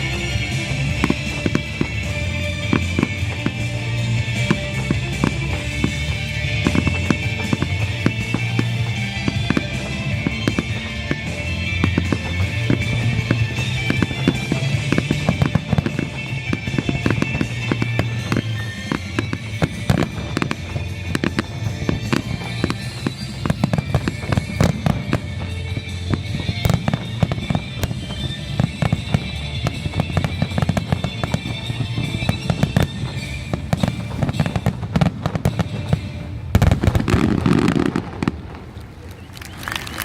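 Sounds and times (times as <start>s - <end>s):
music playing: 0.0s - 39.0s
fireworks bangs and crackles: 0.0s - 40.0s.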